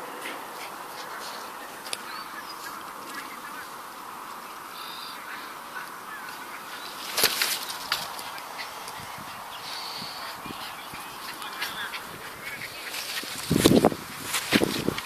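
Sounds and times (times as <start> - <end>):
steady outdoor hiss: 0.0 - 15.0
bird calls: 0.2 - 13.8.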